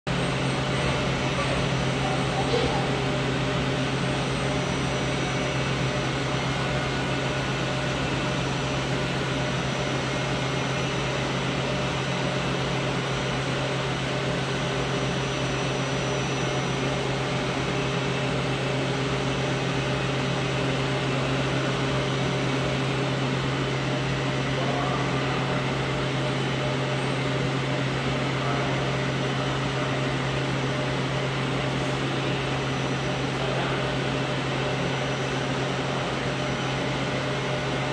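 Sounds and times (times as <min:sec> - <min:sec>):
milling machine humming: 0:00.1 - 0:37.9.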